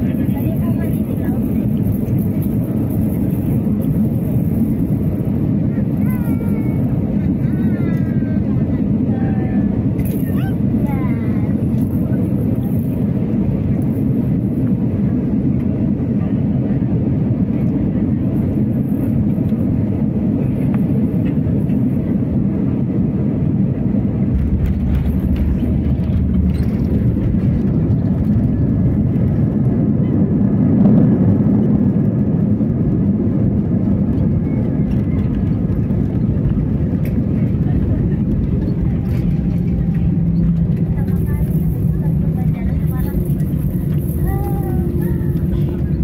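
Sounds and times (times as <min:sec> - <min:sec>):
airplane cabin engine rumble: 0:00.0 - 0:46.0.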